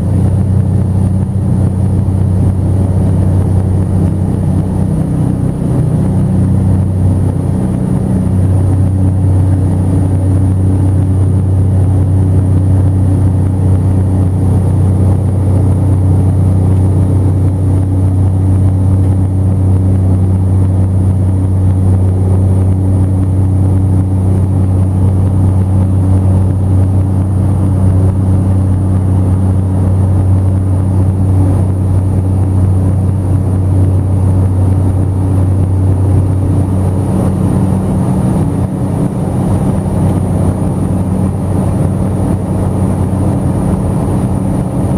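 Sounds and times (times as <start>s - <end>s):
propeller plane engine droning: 0.0s - 44.9s.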